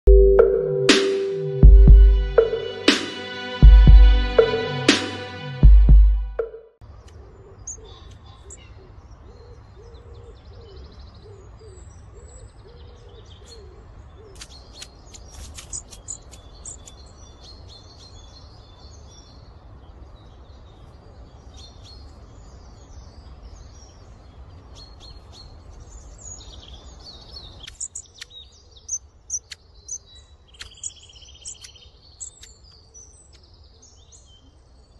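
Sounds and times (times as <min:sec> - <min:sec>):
small birds chirping: 0:06.8 - 0:34.9.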